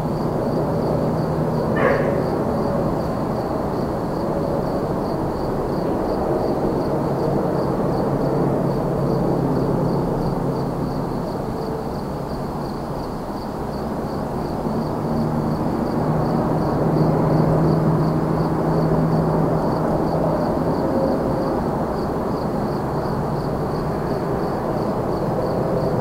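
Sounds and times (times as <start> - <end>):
cricket chirping: 0.0 - 26.0
distant highway traffic rumble: 0.0 - 26.0.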